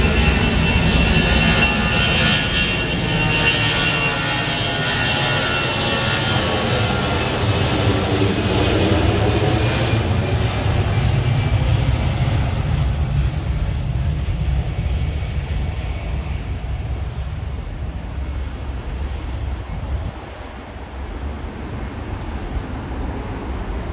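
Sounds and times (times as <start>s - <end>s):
jet engines rumble and fan whine: 0.0s - 23.9s.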